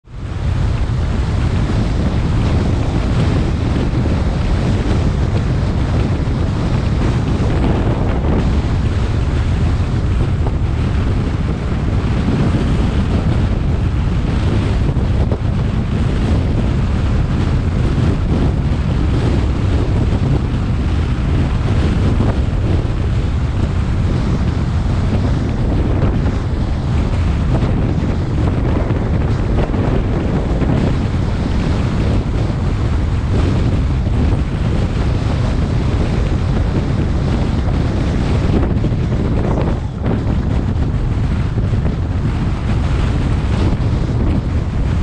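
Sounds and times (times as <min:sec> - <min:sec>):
road noise: 0:00.0 - 0:45.0
wind buffeting microphone: 0:00.0 - 0:45.0.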